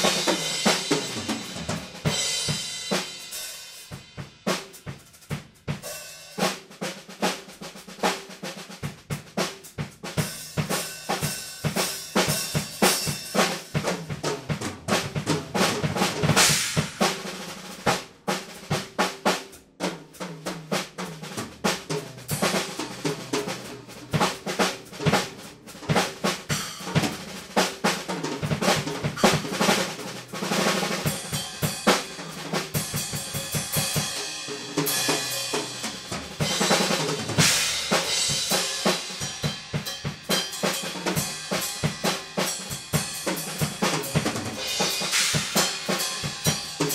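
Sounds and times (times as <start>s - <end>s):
drum kit solo: 0.0s - 46.9s.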